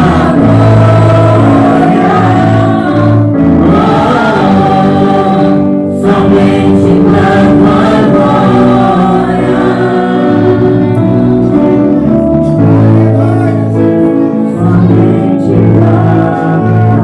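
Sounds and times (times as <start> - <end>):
choir singing gospel music: 0.0 - 17.0.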